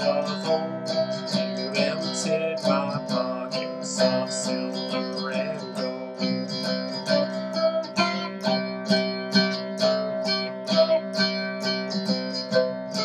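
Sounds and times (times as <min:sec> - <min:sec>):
open guitar strings ringing: 0:00.0 - 0:13.0
picked guitar melody: 0:00.0 - 0:13.0.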